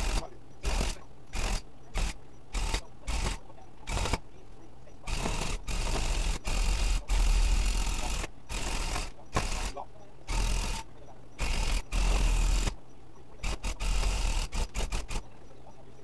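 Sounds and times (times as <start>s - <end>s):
rug-tufting gun punching yarn: 0.0s - 4.3s, 5.1s - 10.8s, 11.4s - 12.8s, 13.4s - 15.3s.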